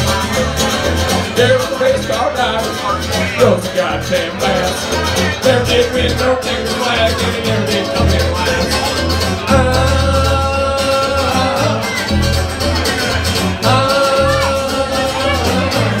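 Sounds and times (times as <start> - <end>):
acoustic guitar strumming: 0.0 - 16.0
banjo: 0.0 - 16.0
bass line: 0.0 - 16.0
voices singing held notes: 0.0 - 16.0.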